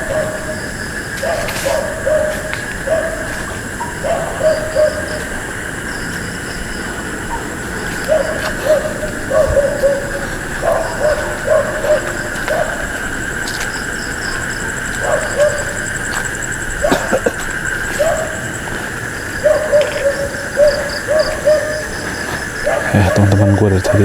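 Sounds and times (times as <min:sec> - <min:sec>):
dogs barking: 0:00.0 - 0:24.0
night insects and frogs: 0:00.0 - 0:24.0.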